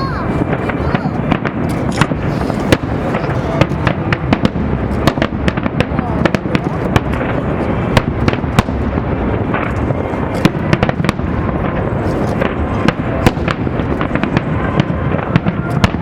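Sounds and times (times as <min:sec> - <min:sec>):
fireworks cracking: 0:00.0 - 0:16.0
rumble of firework booms: 0:00.0 - 0:16.0.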